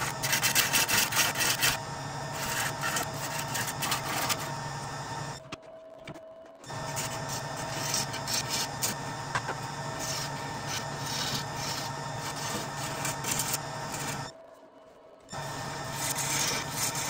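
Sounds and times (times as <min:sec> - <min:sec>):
turning tool scraping wood: 0:00.0 - 0:06.1, 0:06.7 - 0:14.3, 0:15.6 - 0:17.0
lathe motor hum: 0:00.0 - 0:17.0.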